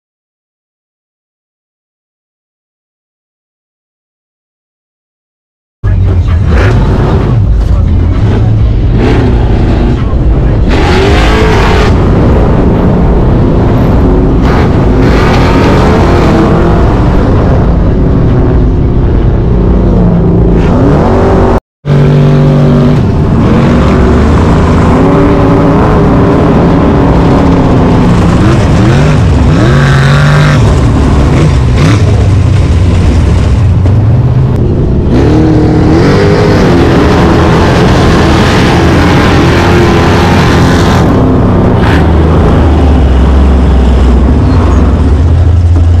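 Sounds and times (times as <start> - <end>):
off-road engines revving: 5.9 - 46.0.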